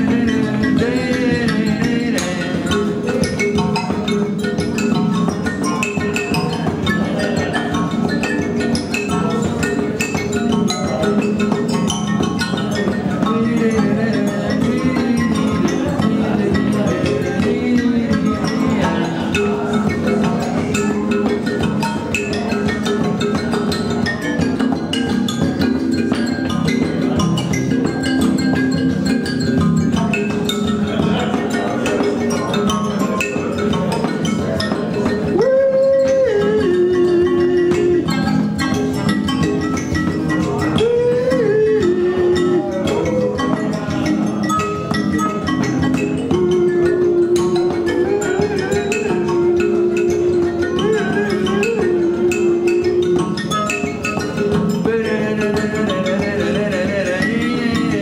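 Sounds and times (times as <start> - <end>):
percussion instrument music: 0.0 - 58.0.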